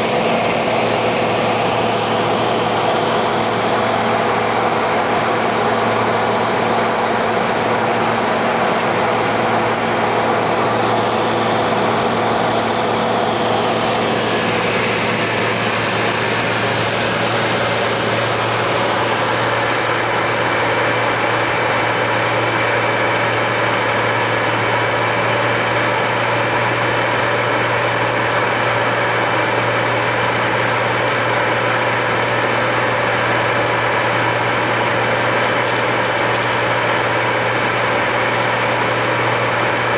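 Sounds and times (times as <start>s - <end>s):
plane engine and propeller droning: 0.0s - 39.9s.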